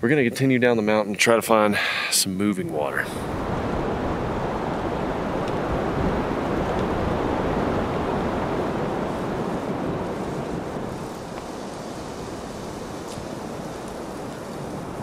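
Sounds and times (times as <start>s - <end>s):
wind on microphone: 3.0s - 15.0s.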